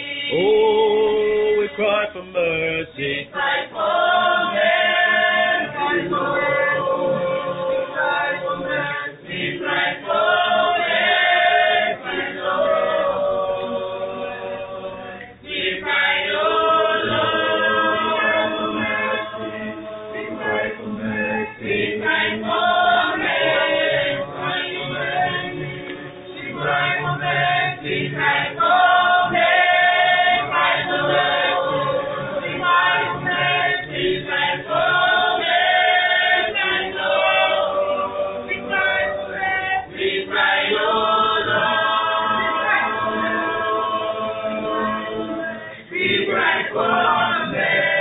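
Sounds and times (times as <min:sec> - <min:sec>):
group singing a cappella in harmony: 0:00.0 - 0:48.0.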